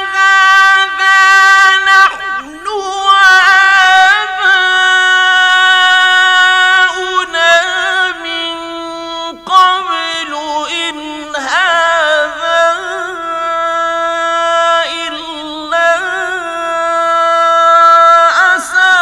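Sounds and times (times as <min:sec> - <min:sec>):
man reciting melodically: 0:00.0 - 0:19.0.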